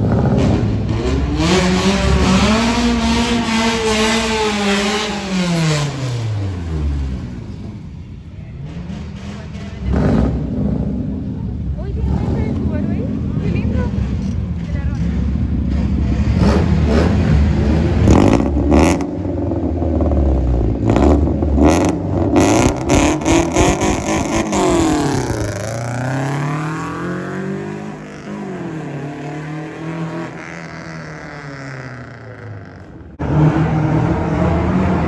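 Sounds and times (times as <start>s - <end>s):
car driving off: 0.0s - 35.0s
car engines revving with pops: 0.0s - 35.0s.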